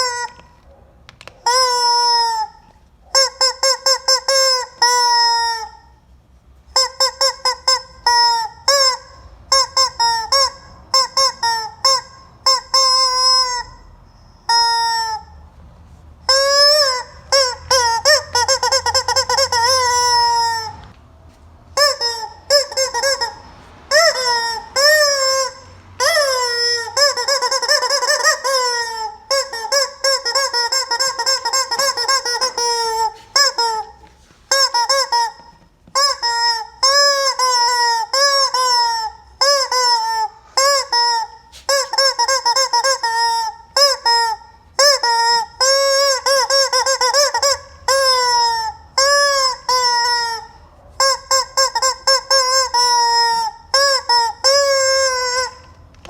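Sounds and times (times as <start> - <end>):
rubber chicken toy squawking: 0.0 - 6.0, 6.7 - 15.4, 16.2 - 21.0, 21.7 - 56.0.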